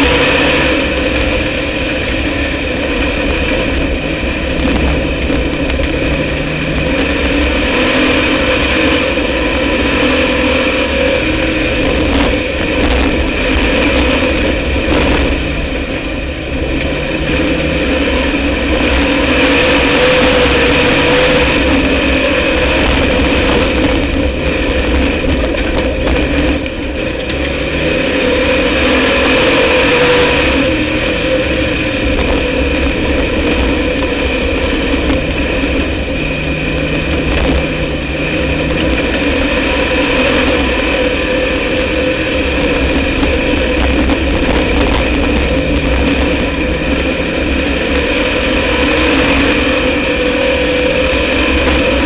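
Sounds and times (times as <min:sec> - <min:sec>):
race car engine running hard: 0:00.0 - 0:52.0.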